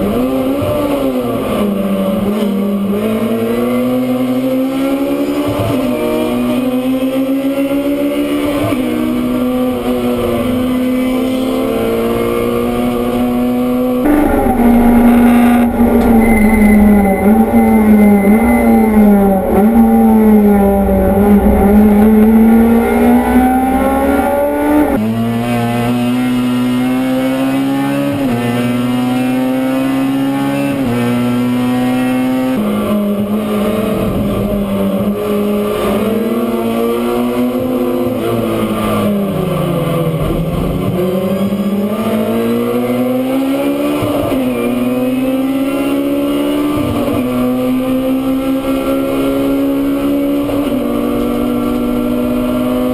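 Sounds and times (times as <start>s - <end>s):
racing car engine at full throttle: 0.0s - 52.9s.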